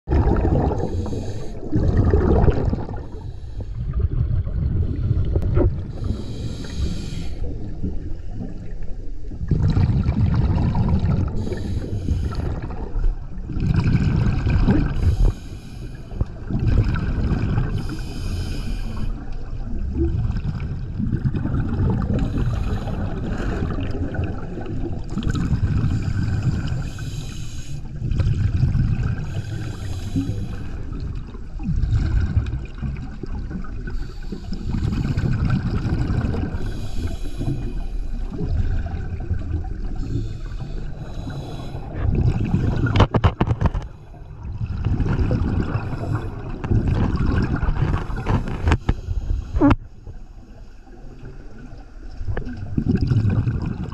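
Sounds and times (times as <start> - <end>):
low underwater rumble: 0.0 - 27.2, 27.8 - 53.9
diver exhaling bubbles: 0.1 - 8.7, 9.4 - 15.5, 16.2 - 27.1, 28.0 - 49.9, 52.4 - 53.9.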